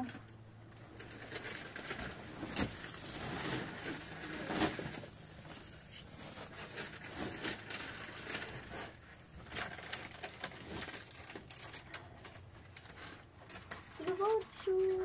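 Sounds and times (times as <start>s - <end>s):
plastic sack rustling: 0.7s - 15.0s.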